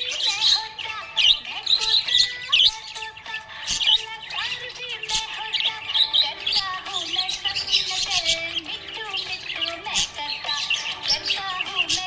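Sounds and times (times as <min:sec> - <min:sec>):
budgerigars chirping and warbling: 0:00.0 - 0:12.0.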